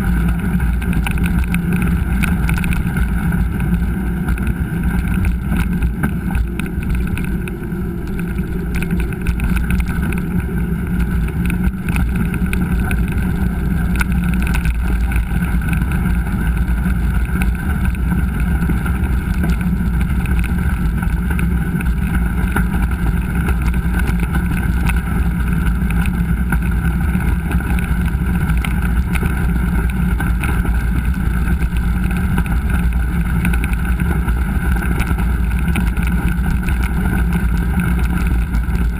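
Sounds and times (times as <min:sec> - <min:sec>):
bike rumble on dirt trail: 0:00.0 - 0:38.9
wind rush over microphone: 0:00.0 - 0:38.9.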